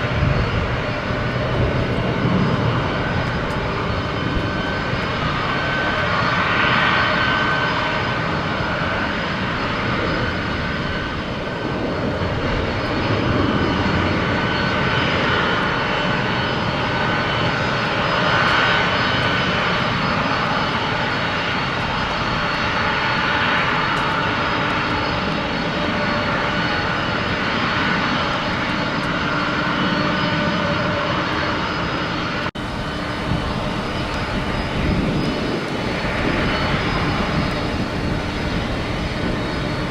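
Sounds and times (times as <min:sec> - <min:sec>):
airplane engines rumbling: 0:00.0 - 0:39.9
high engine whine: 0:00.0 - 0:39.9.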